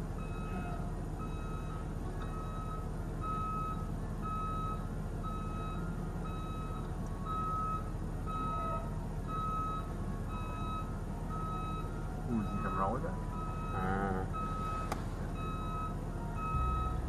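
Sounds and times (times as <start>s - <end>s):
low engine rumble: 0.0s - 17.0s
reversing alarm beeping: 0.0s - 17.0s.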